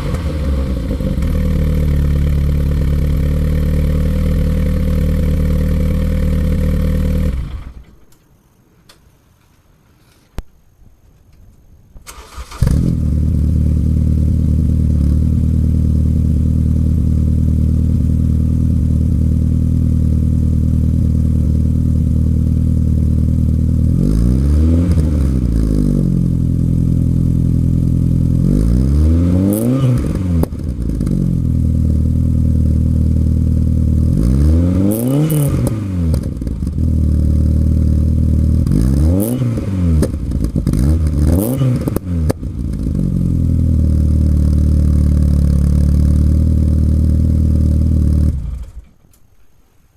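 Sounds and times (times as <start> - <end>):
car engine idling and revving: 0.0 - 7.8, 12.2 - 48.9.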